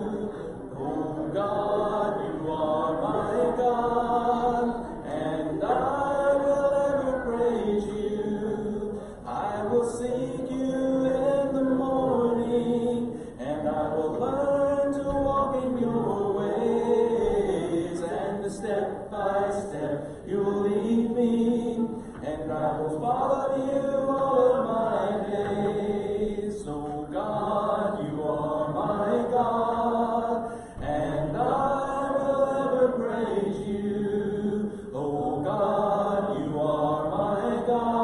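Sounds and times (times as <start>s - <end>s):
congregation singing a hymn: 0.0s - 38.0s.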